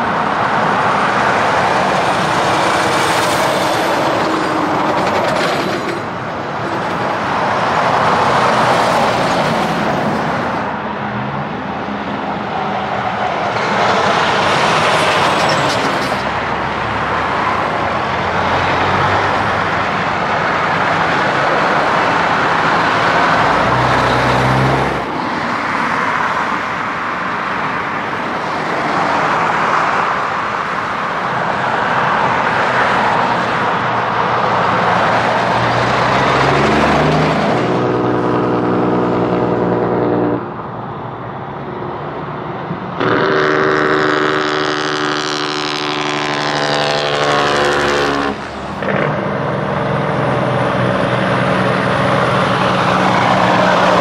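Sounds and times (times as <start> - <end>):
trucks and cars passing: 0.0 - 54.0.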